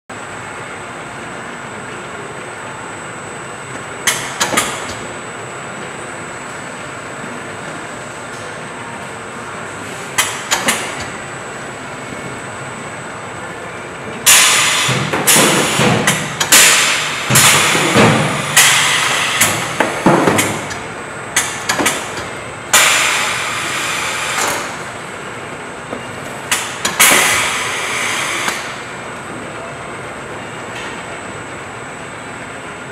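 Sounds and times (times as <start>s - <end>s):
machine hum: 0.1s - 32.9s.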